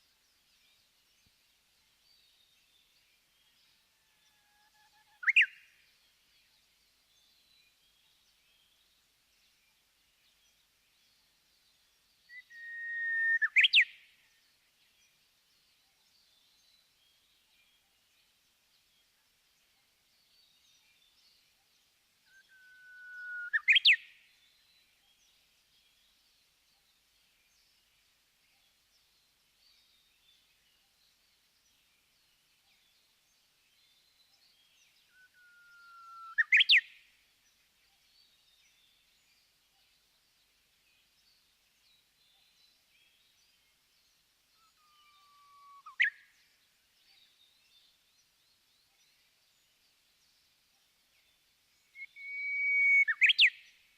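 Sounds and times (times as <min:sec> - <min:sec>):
faint small-bird chirping: 0:00.0 - 0:53.9
bush warbler singing: 0:04.8 - 0:53.9.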